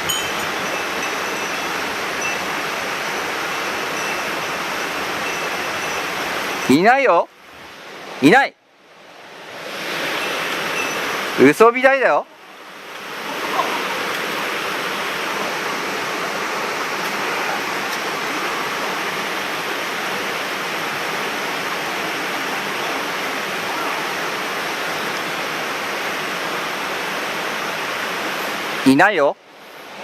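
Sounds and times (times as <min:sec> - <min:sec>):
stream water rushing over rocks: 0:00.0 - 0:30.0.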